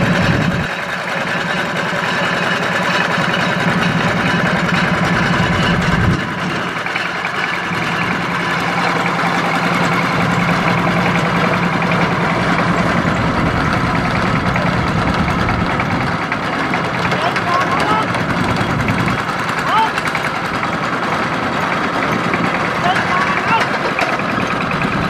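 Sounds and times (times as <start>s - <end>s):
boat engine chugging: 0.0s - 25.0s.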